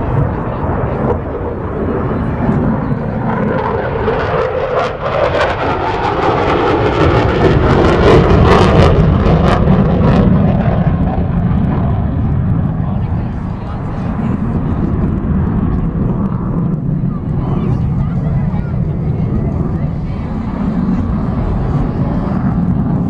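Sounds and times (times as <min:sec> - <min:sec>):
airplane flying past: 0:00.0 - 0:23.0.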